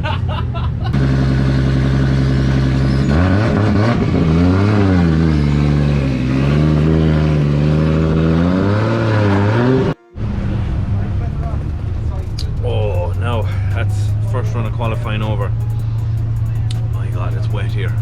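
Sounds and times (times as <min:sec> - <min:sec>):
car engine revving: 0:00.9 - 0:18.0.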